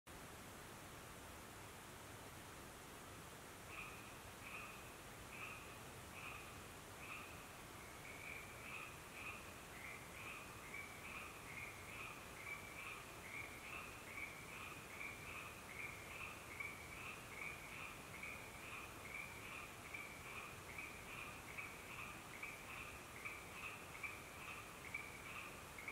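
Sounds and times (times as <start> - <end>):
frogs croaking: 3.6 - 25.9.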